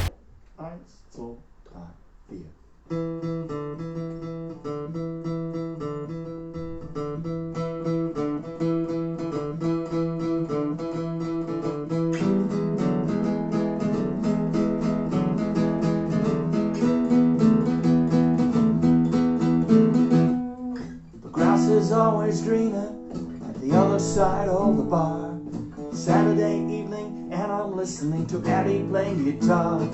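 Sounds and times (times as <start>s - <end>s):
acoustic guitar playing: 2.9s - 29.9s.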